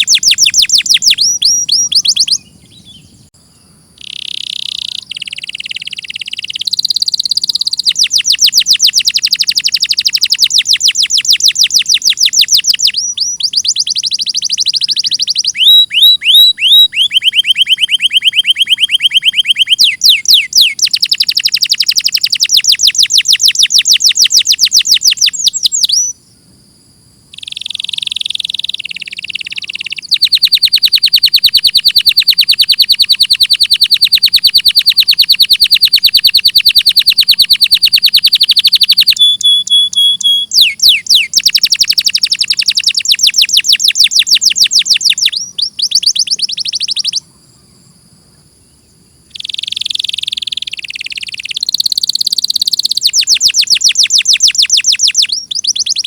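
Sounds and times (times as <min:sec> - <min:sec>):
canary singing trills: 0:00.0 - 0:26.2, 0:27.3 - 0:47.7, 0:48.7 - 0:56.0.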